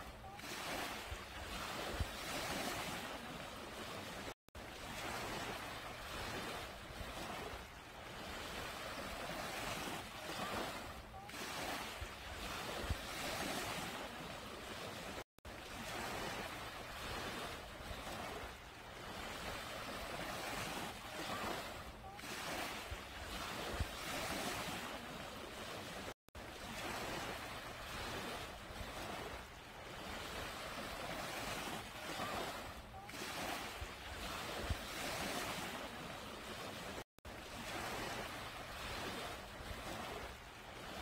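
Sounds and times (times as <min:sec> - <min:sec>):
small waves on sandy beach: 0:00.0 - 0:41.0.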